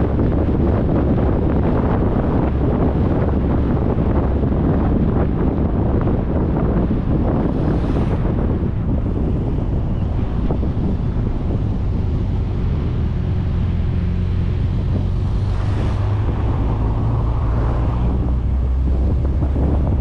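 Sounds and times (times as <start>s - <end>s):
car and tyre drone: 0.0s - 20.0s
wind buffeting microphone: 0.0s - 20.0s.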